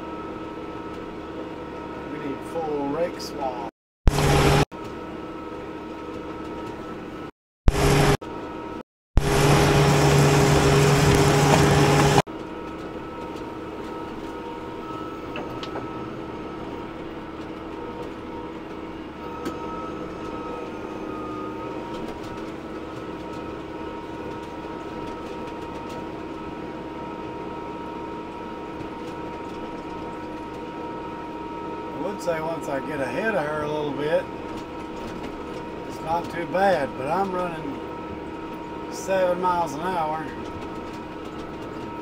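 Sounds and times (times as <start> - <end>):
deeper engine drone: 0.0 - 42.0
tractor engine drone: 0.0 - 42.0.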